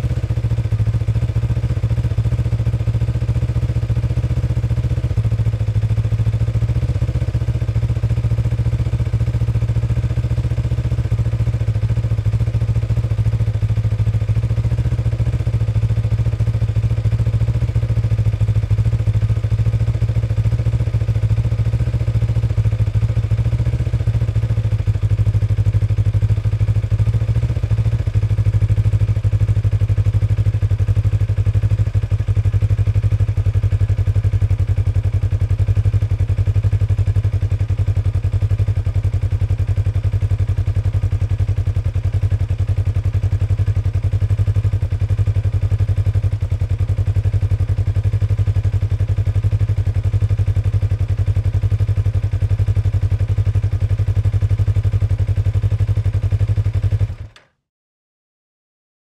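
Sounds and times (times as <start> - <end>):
motorcycle engine idling: 0.0 - 57.5.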